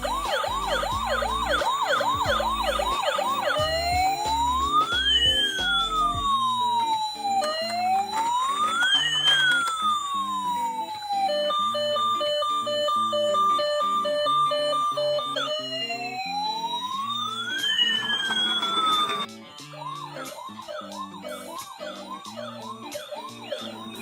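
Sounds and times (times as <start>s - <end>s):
background music with steady beat: 0.0s - 24.0s
electronic siren yelping and wailing: 0.0s - 24.0s.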